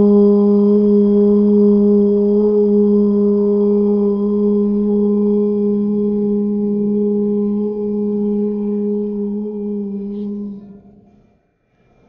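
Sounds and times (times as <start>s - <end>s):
person chanting low oo tone: 0.0s - 11.3s.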